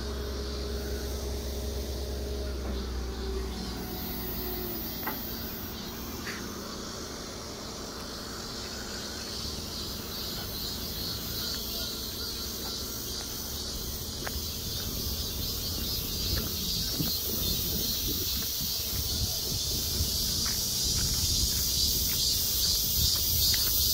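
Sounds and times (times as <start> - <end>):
insects chorus: 0.0 - 23.9.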